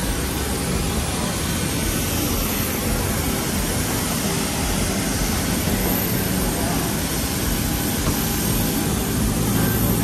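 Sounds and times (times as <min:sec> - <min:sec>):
faint high whine: 0:00.0 - 0:10.0
jet engines roaring: 0:00.0 - 0:10.0.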